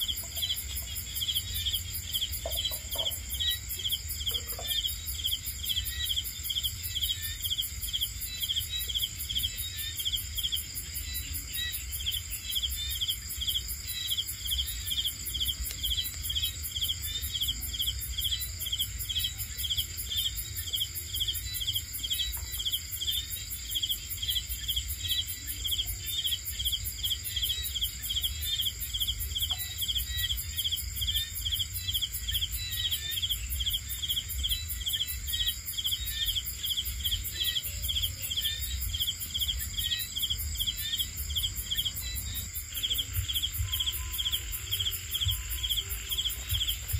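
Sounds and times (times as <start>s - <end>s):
crickets chirping: 0.0s - 46.9s
high-pitched insect trill: 0.0s - 46.9s.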